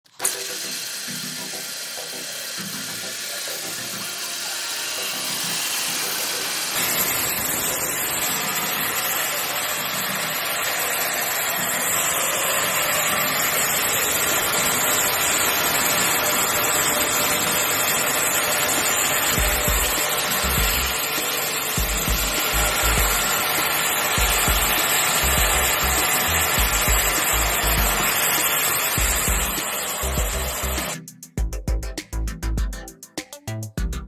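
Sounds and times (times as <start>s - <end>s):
band sawmill drone: 0.2s - 31.0s.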